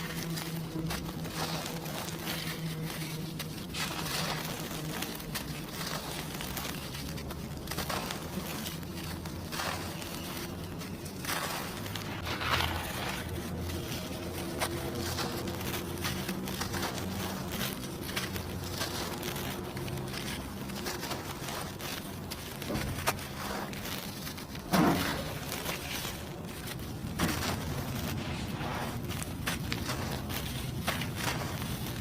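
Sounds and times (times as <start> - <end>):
dry cement crumbling: 0.0 - 32.0.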